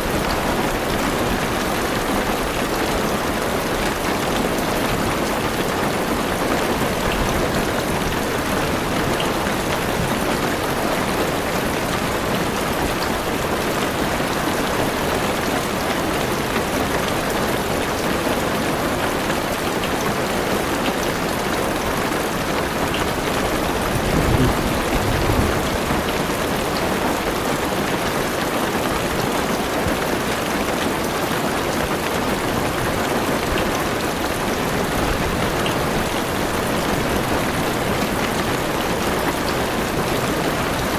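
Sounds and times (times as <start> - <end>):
heavy rain on car roof: 0.0 - 40.9.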